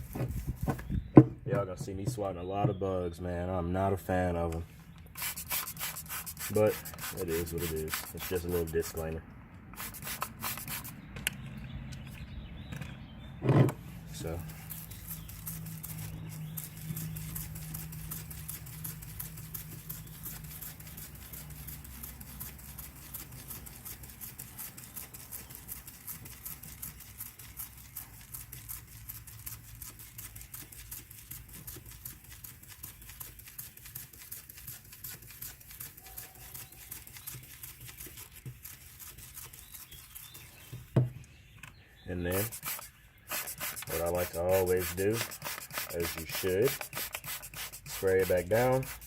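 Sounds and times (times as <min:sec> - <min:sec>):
sandpaper rubbing on plastic: 0:00.0 - 0:01.1, 0:05.2 - 0:09.2, 0:09.8 - 0:11.0, 0:14.0 - 0:41.0, 0:42.3 - 0:49.0.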